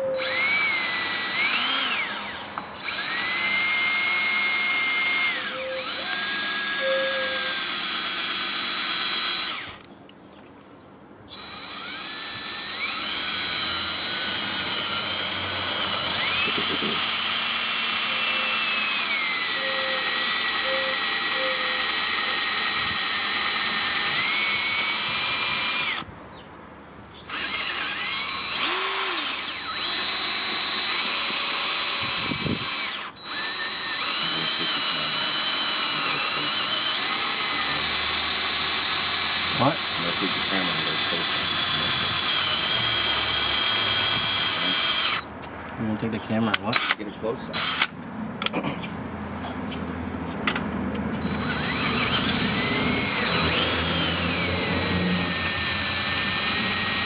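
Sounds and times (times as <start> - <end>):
electric drill drilling metal: 0.0 - 9.8, 11.3 - 26.1, 27.3 - 45.3, 46.7 - 47.9, 51.2 - 57.0.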